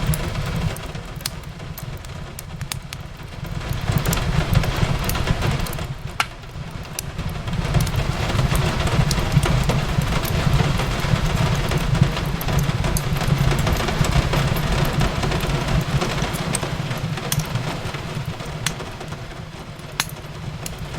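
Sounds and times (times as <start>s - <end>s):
fireplace crackling and popping: 0.0s - 20.9s
rain on a window: 0.0s - 20.9s.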